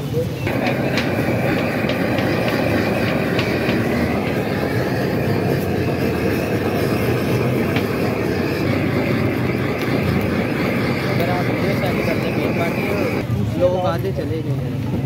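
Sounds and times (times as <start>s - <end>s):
blowtorch flame rushing: 0.4s - 13.3s.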